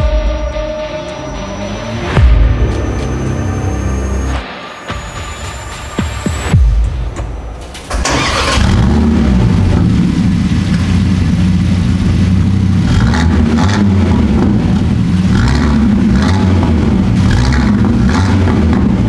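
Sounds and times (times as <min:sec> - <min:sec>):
car engine starting and idling: 0:00.0 - 0:19.0.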